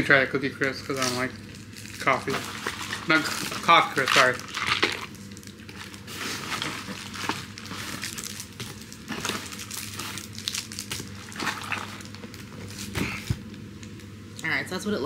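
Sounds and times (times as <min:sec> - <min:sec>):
plastic wrapper crinkling: 0:00.6 - 0:13.9.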